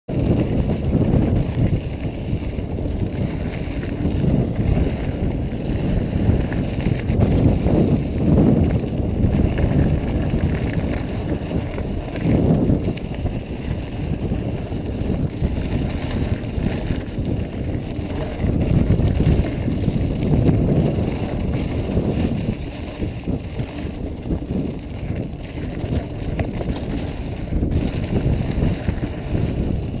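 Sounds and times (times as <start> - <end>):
bike rattling: 0.1 - 30.0
tyres rumbling over dirt and rocks: 0.1 - 30.0
wind on microphone: 0.1 - 30.0.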